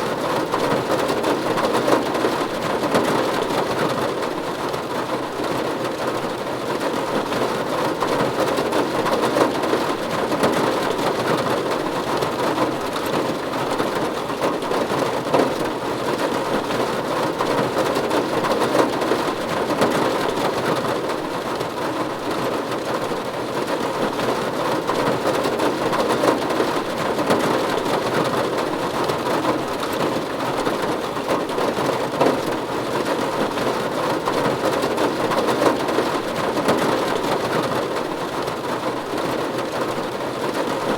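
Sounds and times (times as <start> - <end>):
rain drumming on a roof: 0.0 - 40.9.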